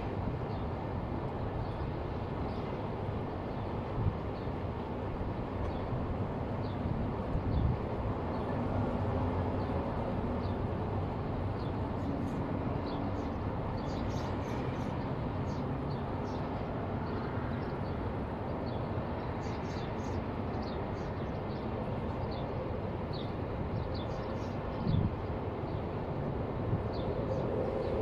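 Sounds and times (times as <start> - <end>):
rushing wind: 0.0 - 28.0.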